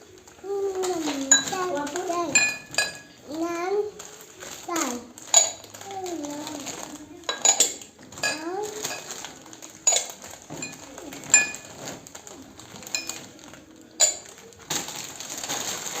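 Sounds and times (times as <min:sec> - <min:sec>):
bowls clinking: 0:00.0 - 0:16.0.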